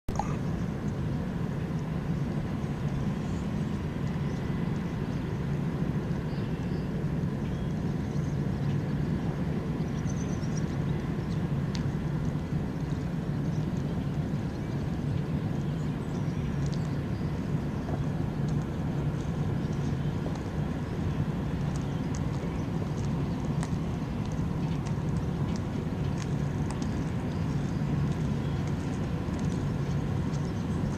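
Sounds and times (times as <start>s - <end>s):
ship machinery low rumble: 0.0s - 30.9s.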